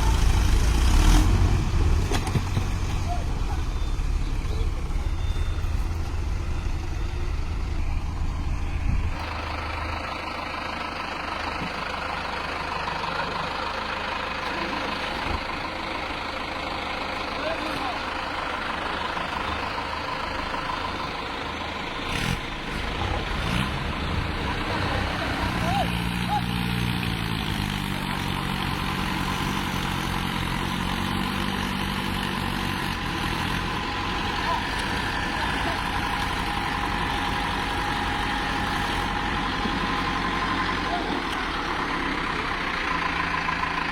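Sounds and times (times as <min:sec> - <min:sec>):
lighter noisy engine: 0:00.0 - 0:43.9
tractor engines rumbling: 0:00.0 - 0:43.9.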